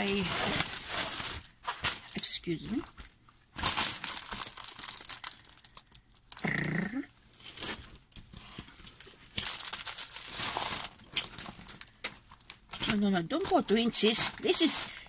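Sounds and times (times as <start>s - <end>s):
plastic film crinkling: 0.0s - 6.5s, 7.3s - 15.0s.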